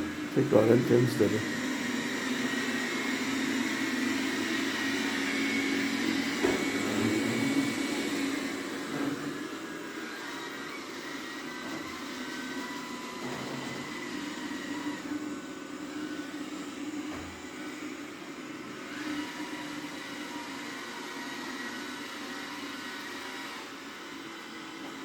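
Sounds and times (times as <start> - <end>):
robot vacuum whirring: 0.0 - 25.0.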